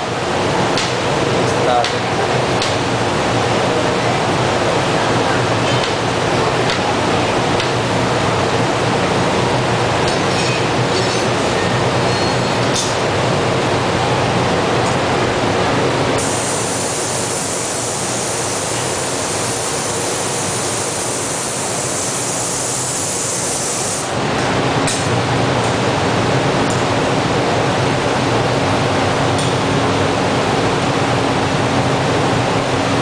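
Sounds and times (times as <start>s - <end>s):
gas furnace roaring: 0.0s - 33.0s.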